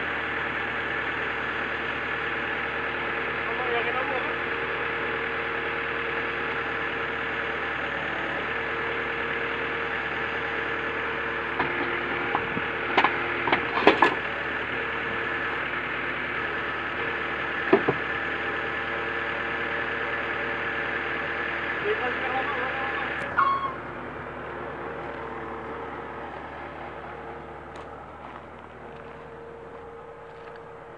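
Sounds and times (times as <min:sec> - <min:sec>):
crane engine and hydraulics: 0:00.0 - 0:30.9.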